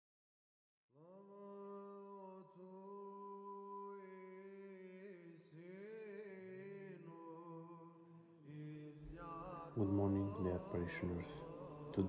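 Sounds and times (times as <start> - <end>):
faint choral chant: 1.0 - 12.0.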